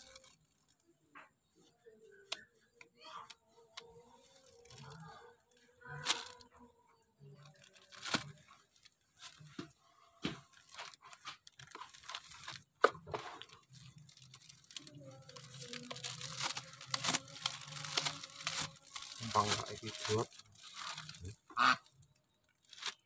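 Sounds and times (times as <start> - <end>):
plastic bags crinkling: 0.0 - 0.8, 3.6 - 5.2, 5.8 - 6.5, 7.2 - 23.0.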